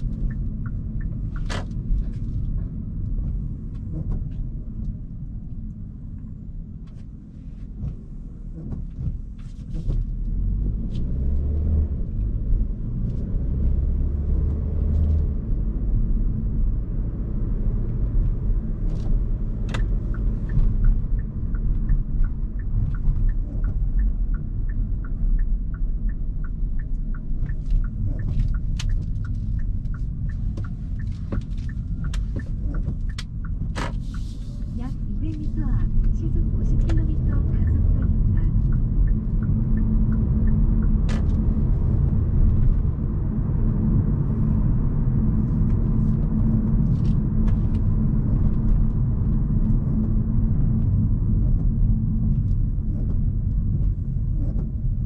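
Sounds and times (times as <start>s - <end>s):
road and tyre rumble: 0.0s - 55.0s.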